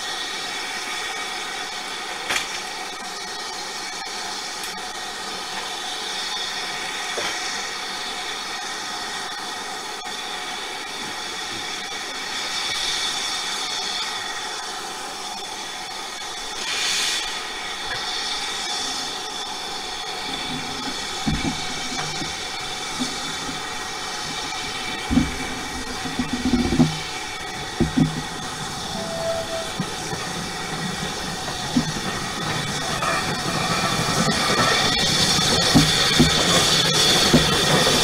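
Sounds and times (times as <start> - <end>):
locomotive steam hissing: 0.0 - 38.0.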